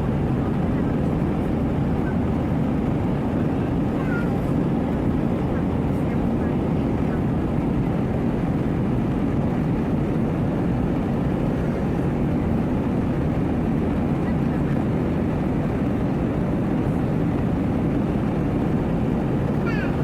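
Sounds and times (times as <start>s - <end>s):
aircraft cabin engine roar: 0.0s - 20.0s.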